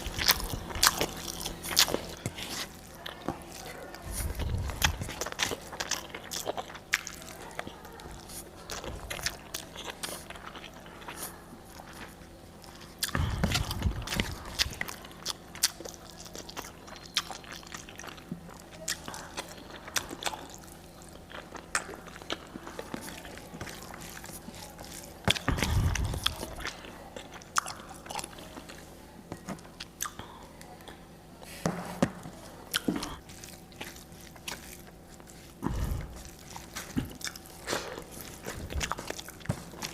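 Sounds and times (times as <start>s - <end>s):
person chewing crunchy food: 0.0s - 31.0s, 32.0s - 39.9s.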